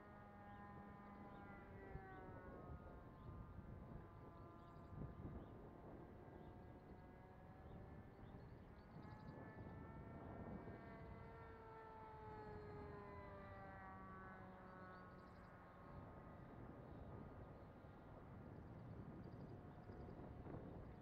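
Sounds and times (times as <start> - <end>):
model airplane engine drone: 0.0 - 21.0.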